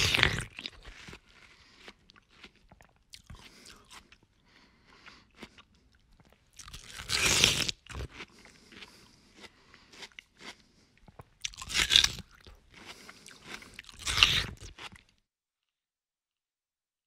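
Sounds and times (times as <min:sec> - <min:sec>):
crunching bite of watermelon: 0:00.0 - 0:15.1
chewing crunches: 0:00.0 - 0:15.2.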